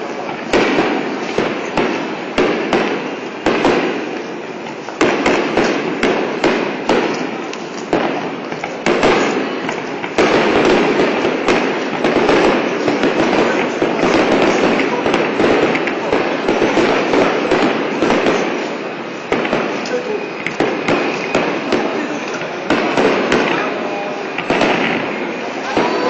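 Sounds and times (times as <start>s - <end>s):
fireworks bangs and crackle: 0.0s - 26.0s.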